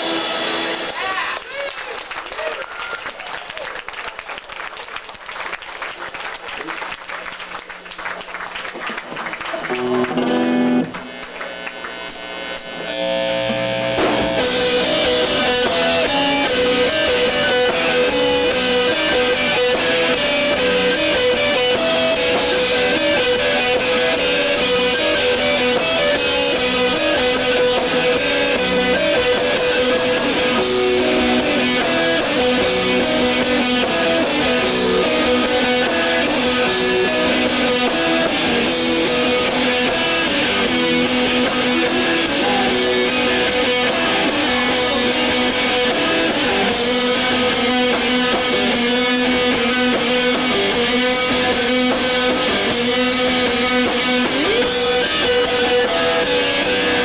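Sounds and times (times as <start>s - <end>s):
electric guitar notes: 0.0s - 1.2s, 9.5s - 57.0s
rock band playing: 0.0s - 1.4s, 8.8s - 57.0s.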